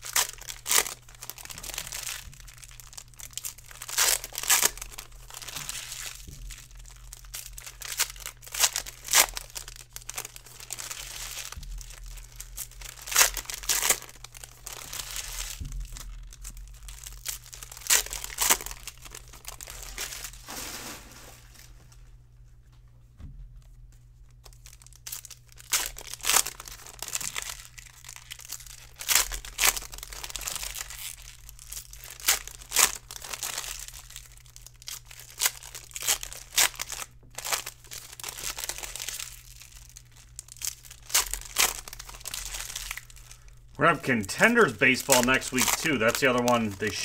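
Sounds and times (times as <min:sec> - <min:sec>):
foil wrappers tearing and crinkling: 0:00.0 - 0:22.0, 0:24.4 - 0:47.0.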